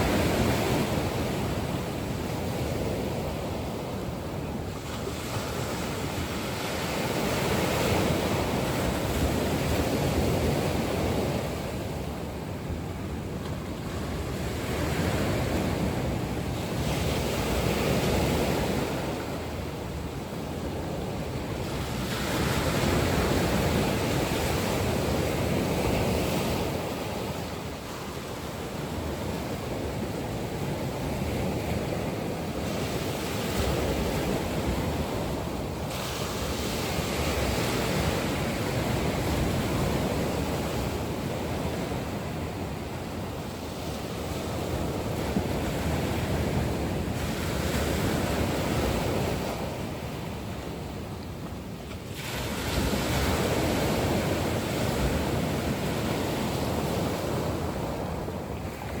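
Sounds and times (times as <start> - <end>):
ocean waves breaking on shore: 0.0 - 59.0.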